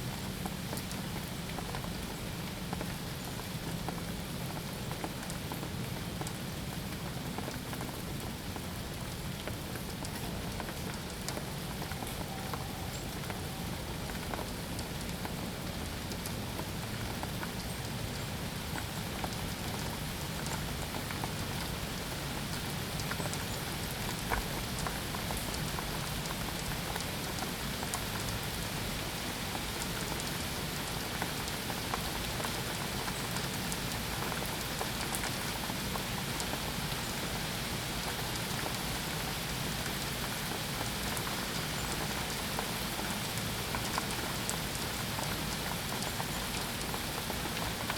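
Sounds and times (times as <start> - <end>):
steady rainfall pattering: 0.0 - 47.9.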